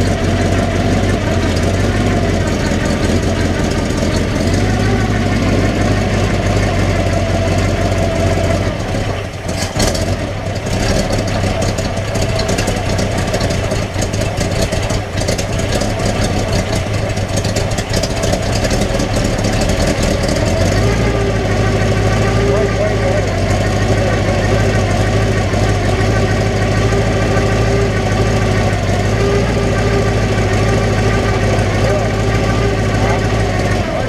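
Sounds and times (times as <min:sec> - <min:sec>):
engine idling: 0:00.0 - 0:34.0
fine engine ticking: 0:00.0 - 0:34.0.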